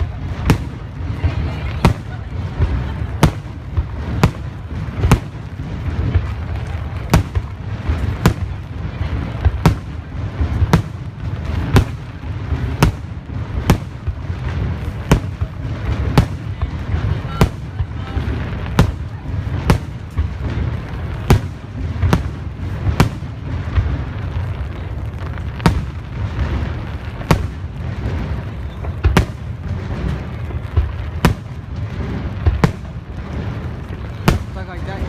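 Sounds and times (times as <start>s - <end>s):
low rumble of shells bursting: 0.0s - 35.0s
sharp firework bangs: 0.0s - 35.0s.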